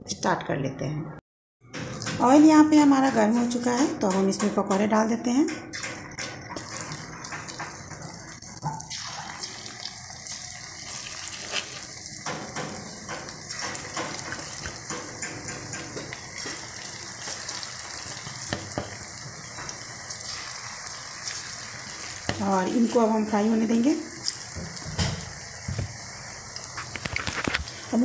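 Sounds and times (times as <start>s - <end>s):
batter deep-frying in oil: 1.8s - 28.0s.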